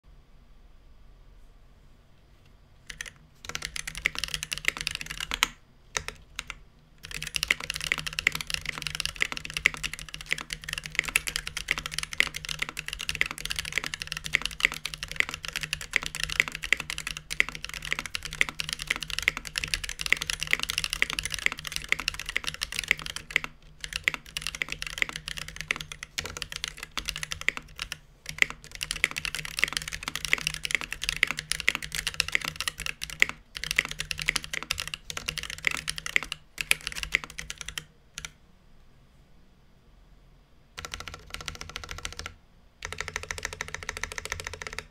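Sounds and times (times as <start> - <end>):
fast keyboard typing: 2.8 - 38.4, 40.8 - 44.9.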